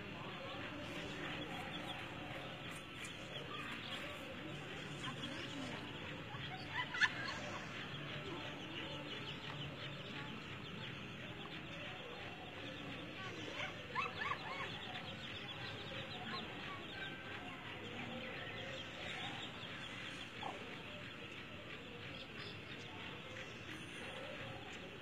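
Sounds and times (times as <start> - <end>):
chicks peeping: 0.1 - 23.4.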